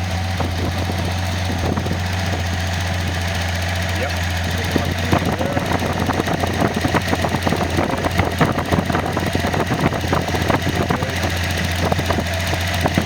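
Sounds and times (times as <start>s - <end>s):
car engine idling with ticking: 0.0s - 13.0s.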